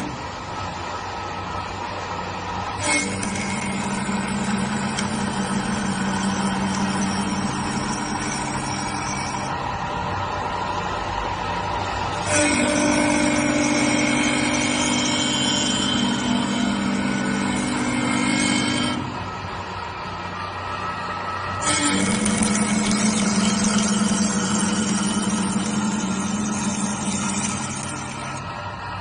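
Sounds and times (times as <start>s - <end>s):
higher motor hum: 0.0s - 29.0s
lathe motors humming: 0.0s - 29.0s.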